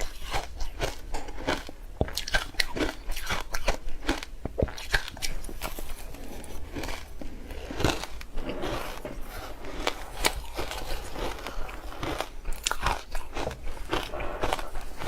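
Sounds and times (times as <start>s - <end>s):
ice crunching being chewed: 0.0s - 15.0s.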